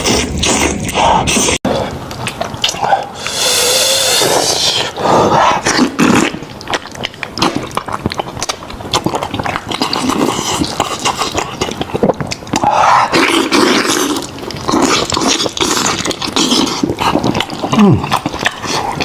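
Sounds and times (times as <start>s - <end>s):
lip-smacking: 0.0s - 19.0s
sucking: 0.0s - 19.0s
wet chewing: 0.0s - 19.0s.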